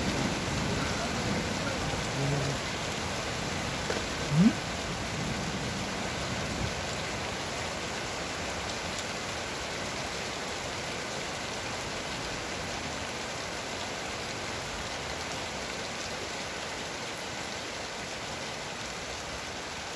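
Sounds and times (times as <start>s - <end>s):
steady rain hiss: 0.0s - 19.9s.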